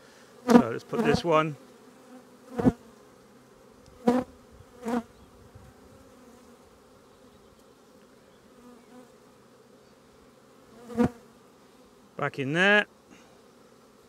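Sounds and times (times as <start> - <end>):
bee buzzing close by: 0.0 - 14.0
bees humming: 0.0 - 14.0.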